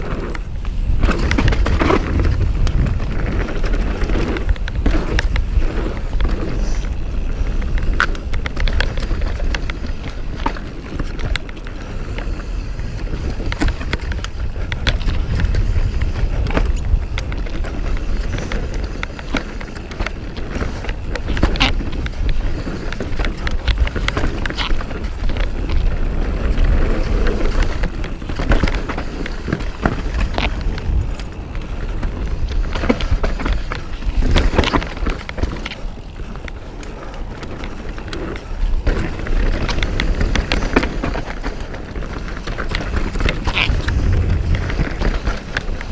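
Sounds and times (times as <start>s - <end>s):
bike clicks and rattles: 0.0s - 45.9s
bike tyres rolling over dirt: 0.0s - 45.9s
wind rumble on microphone: 0.0s - 45.9s.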